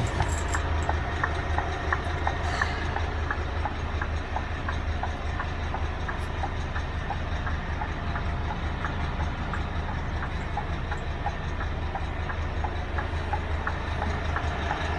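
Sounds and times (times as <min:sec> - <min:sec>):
diesel engine idling: 0:00.0 - 0:14.9
light ticking: 0:00.5 - 0:14.9.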